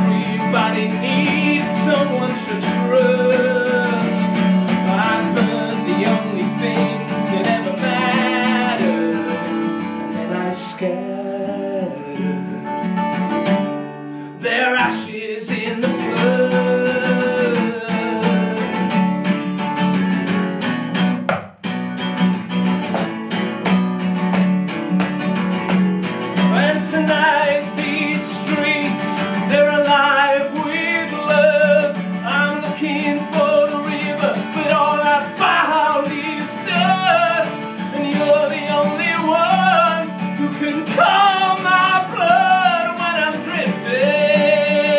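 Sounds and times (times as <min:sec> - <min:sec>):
man singing: 0:00.0 - 0:12.9, 0:14.4 - 0:19.4, 0:26.4 - 0:44.9
acoustic guitar strumming: 0:00.0 - 0:44.9.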